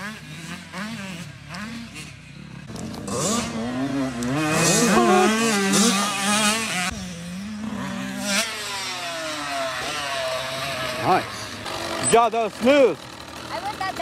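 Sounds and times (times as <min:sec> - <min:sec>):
dirt bike engines revving: 0:00.0 - 0:14.0
steady engine running: 0:02.4 - 0:14.0.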